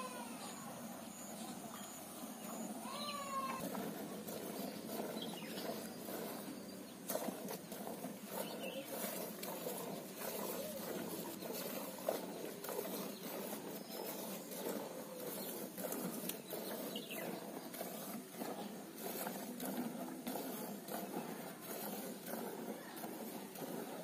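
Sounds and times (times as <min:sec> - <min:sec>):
milk squirting into metal pail: 0:03.2 - 0:24.0.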